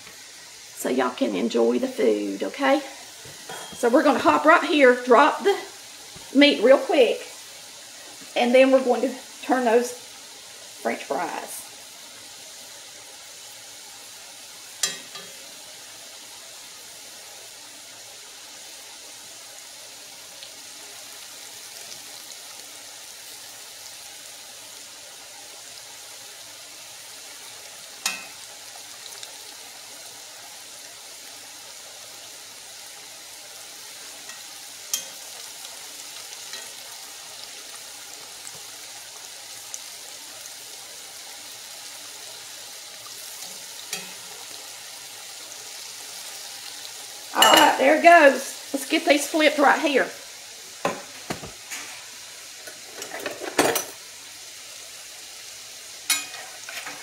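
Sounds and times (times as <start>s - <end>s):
steak sizzling in oil: 0.0s - 57.0s.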